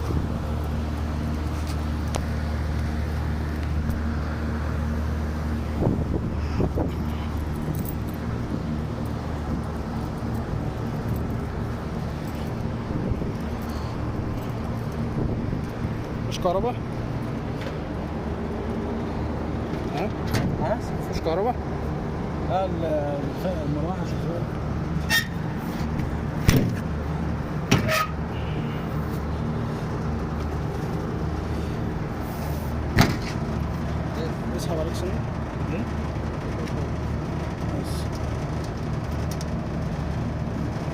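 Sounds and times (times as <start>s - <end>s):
air conditioning unit humming: 0.0s - 40.9s.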